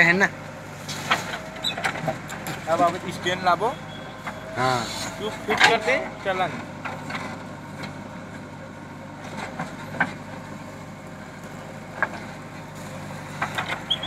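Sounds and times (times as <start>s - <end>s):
backhoe diesel engine running: 0.0s - 14.0s.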